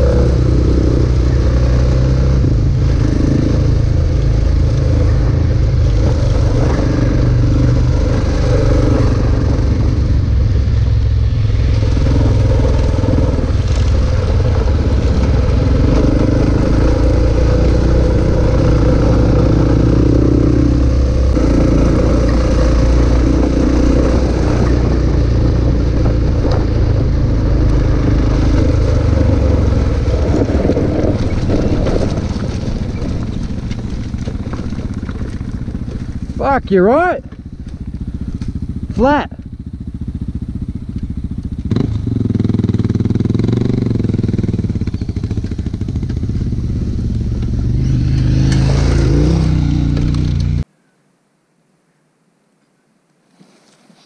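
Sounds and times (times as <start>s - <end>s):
motorcycle engine: 0.0s - 50.7s
wind and road noise: 0.0s - 50.7s.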